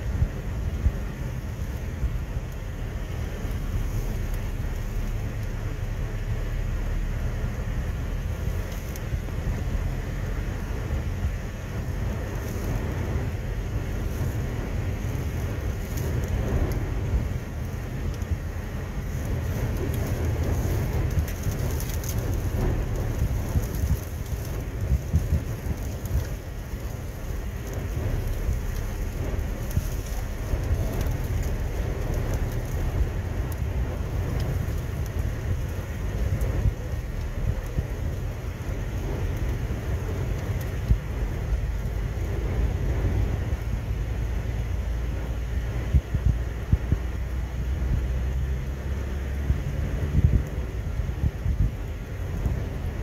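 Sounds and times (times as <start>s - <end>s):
strong wind gusting: 0.0s - 53.0s.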